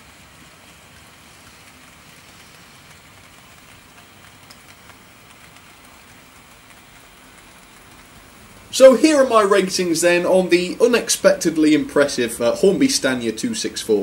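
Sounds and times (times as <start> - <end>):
model trains running on track: 0.0 - 14.0.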